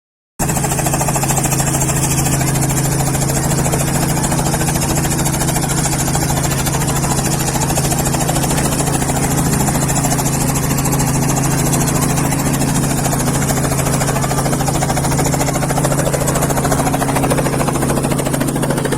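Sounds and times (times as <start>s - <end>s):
helicopter engine and rotor chop: 0.4s - 18.9s.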